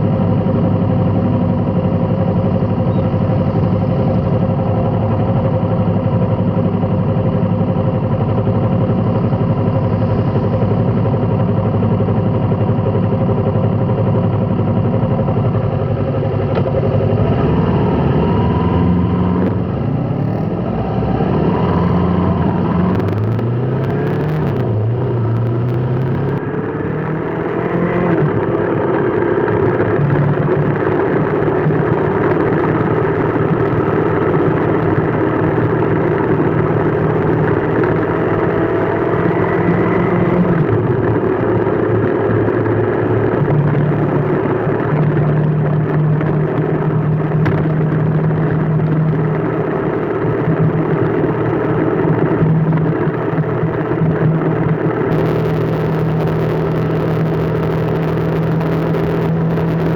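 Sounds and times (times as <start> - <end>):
motor vehicle engine running: 0.0 - 59.9.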